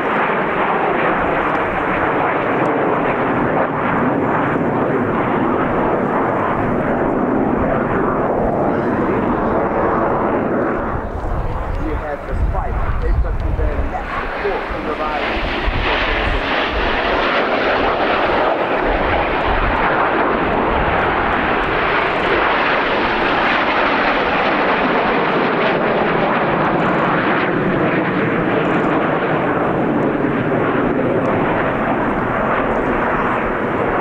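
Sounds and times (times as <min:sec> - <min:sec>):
jet aircraft flying past: 0:00.0 - 0:34.0.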